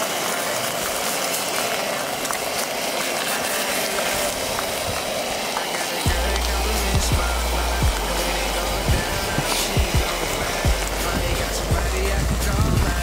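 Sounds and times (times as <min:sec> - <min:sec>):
food sizzling in hot pan: 0:00.0 - 0:13.0.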